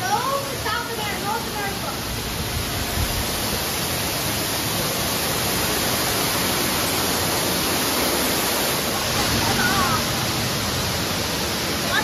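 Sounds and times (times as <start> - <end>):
waterfall pouring in cave: 0.0 - 12.0.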